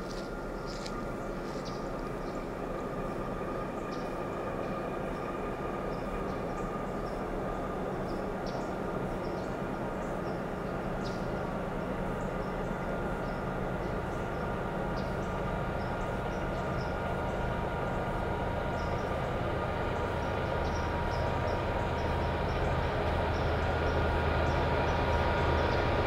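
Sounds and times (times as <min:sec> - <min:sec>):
diesel freight train rumble: 0:00.0 - 0:26.0
steady high hum: 0:00.0 - 0:26.0.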